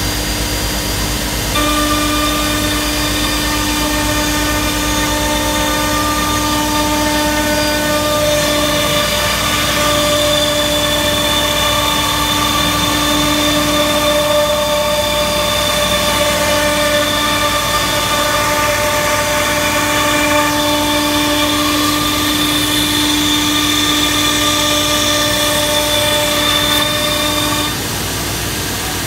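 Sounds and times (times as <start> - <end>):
router spindle high whine: 0.0 - 29.0.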